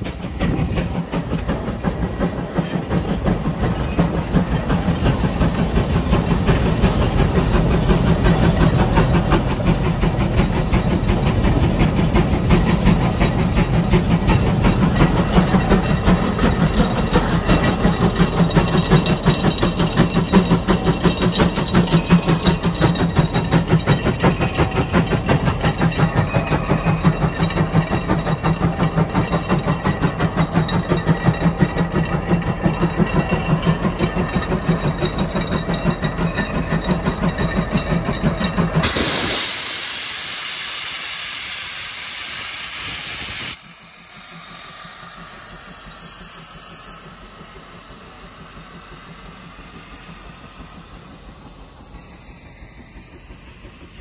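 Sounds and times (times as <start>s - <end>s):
steam engine exhaust beat: 0.0s - 54.0s.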